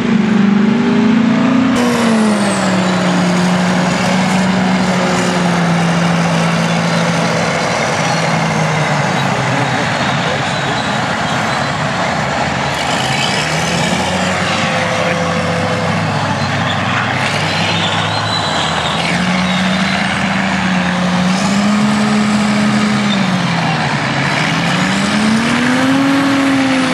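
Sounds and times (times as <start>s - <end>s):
diesel engine revving under load: 0.0s - 26.9s.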